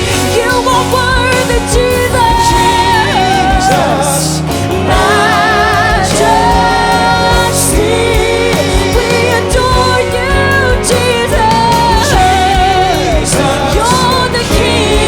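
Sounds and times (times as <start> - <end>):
person singing with vibrato: 0.0 - 15.0
worship band music: 0.0 - 15.0.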